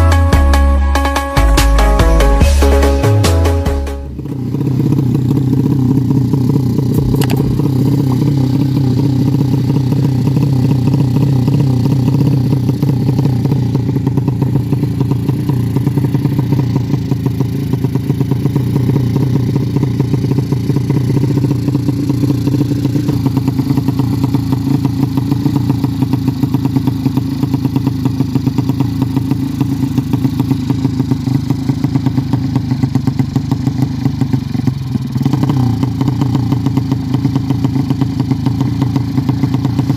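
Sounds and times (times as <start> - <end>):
moped engine idling: 1.7 - 39.9.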